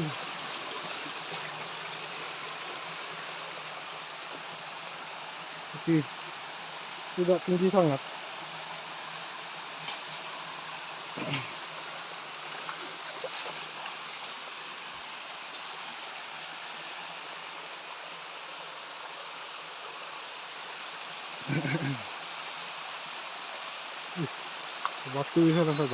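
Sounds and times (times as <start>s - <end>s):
rushing waterfall: 0.0s - 25.9s.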